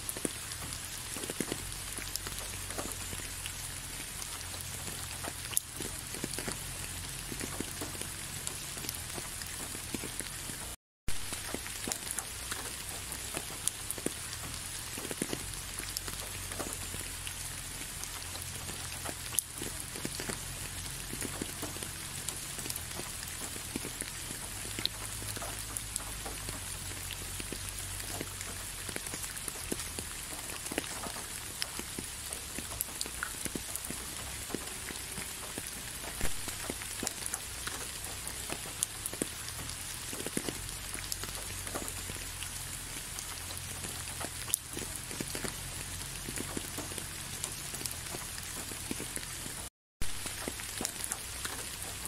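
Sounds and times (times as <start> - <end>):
raindrops ticking: 0.0 - 52.0
steady rain hiss: 0.0 - 52.0.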